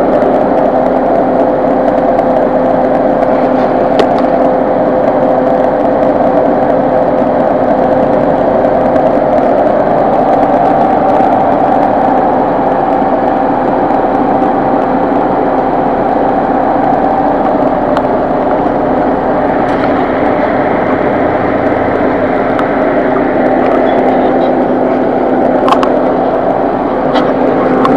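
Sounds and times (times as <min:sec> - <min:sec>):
car engine idling: 0:00.0 - 0:27.9
whirring hum: 0:00.0 - 0:27.9.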